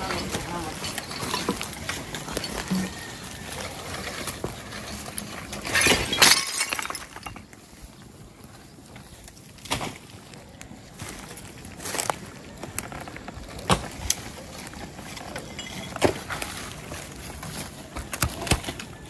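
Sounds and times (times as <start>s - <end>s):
branches and trash crackling: 0.0s - 19.0s.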